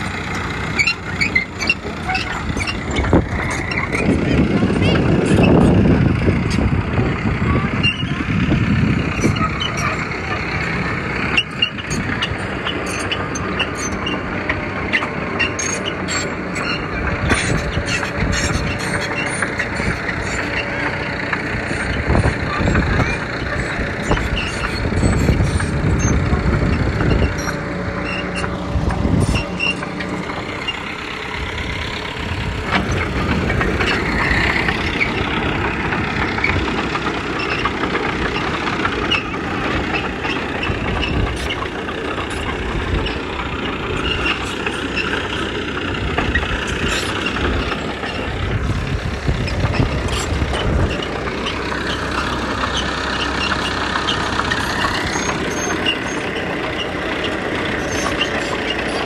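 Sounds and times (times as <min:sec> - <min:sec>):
heavy machinery diesel engines: 0:00.0 - 0:59.0.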